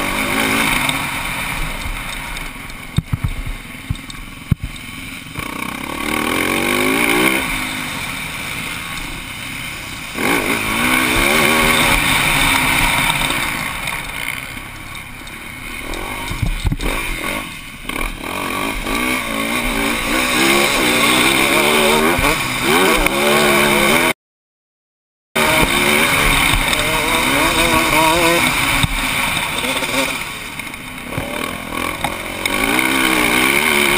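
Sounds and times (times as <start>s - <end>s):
motocross bike engine revving: 0.0s - 24.2s, 25.4s - 33.9s.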